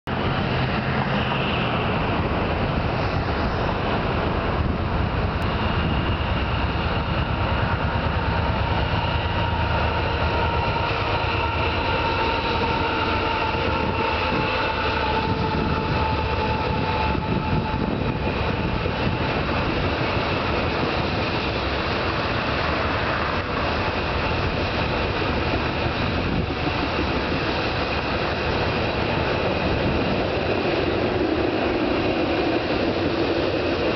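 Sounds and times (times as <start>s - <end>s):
freight train rumbling over bridge: 0.1s - 33.9s.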